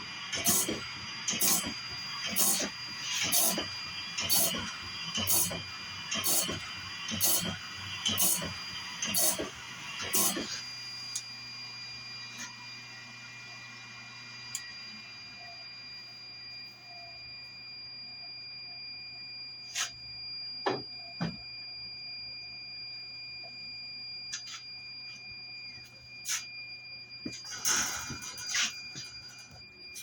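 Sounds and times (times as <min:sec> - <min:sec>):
fire alarm two-note tone: 0:00.0 - 0:30.0.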